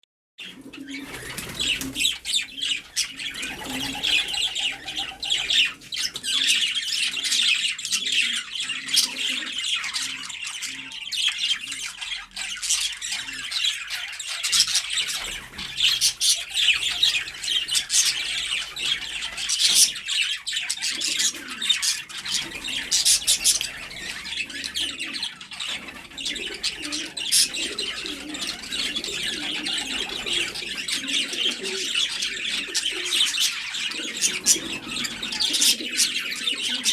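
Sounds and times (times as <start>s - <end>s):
birds chirping and squawking: 0.4s - 36.9s.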